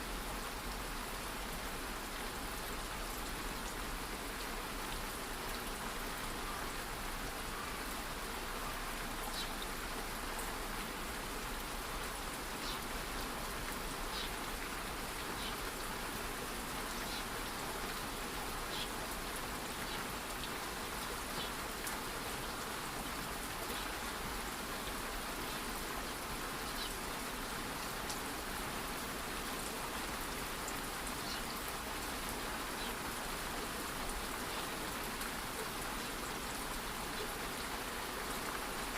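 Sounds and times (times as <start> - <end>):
light rain hiss: 0.0 - 38.9.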